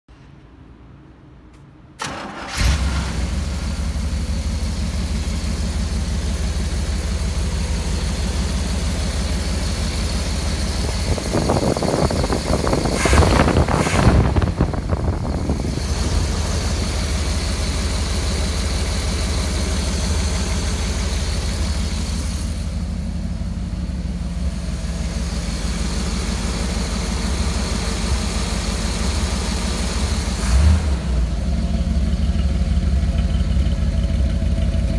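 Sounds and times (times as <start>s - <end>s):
engine starting and idling: 2.0s - 34.9s.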